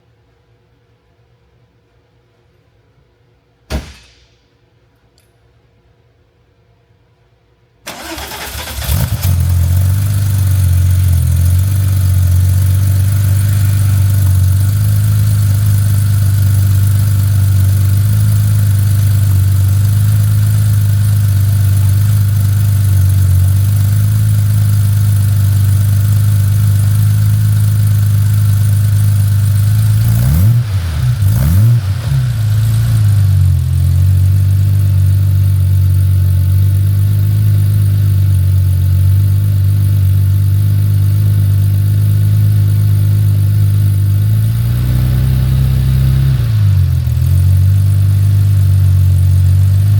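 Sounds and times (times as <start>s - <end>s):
car engine idling: 7.9s - 49.9s.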